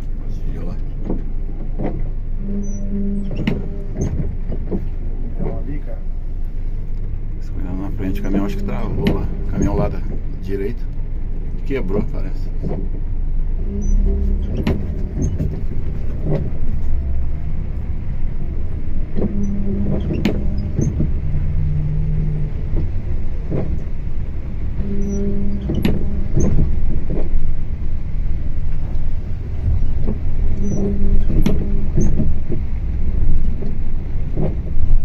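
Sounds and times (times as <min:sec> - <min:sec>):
bus engine and tyre rumble: 0:00.0 - 0:35.0
short low hums: 0:00.0 - 0:35.0.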